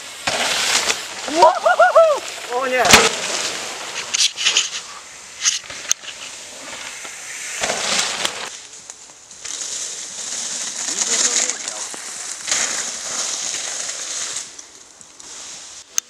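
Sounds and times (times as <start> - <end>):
leaves crackling under bike tyres: 0.0 - 16.0
bike clicking and rattling: 2.3 - 15.3.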